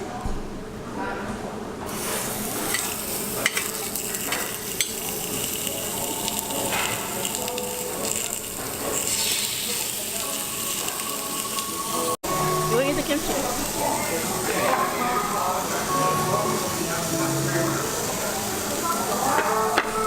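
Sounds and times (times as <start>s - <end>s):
meat sizzling on grill: 1.9s - 20.0s.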